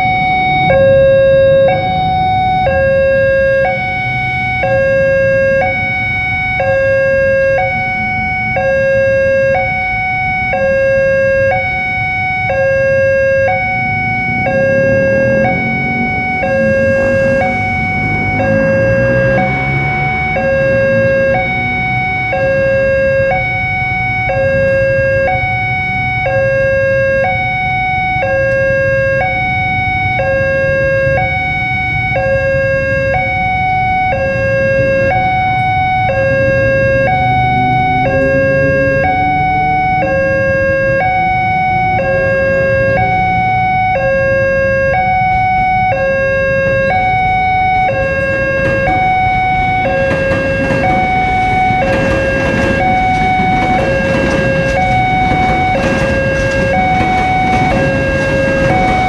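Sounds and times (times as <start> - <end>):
two-tone crossing alarm: 0.0 - 59.0.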